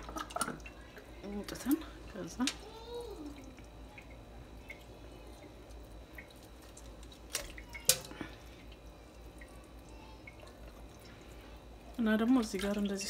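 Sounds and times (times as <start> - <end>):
water dripping in a bowl: 0.0 - 13.0.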